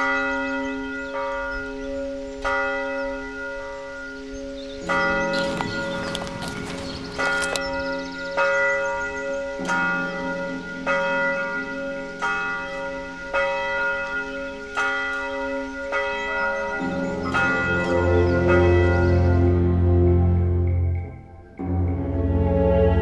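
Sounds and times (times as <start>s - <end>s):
church bell tolling: 0.0s - 22.3s.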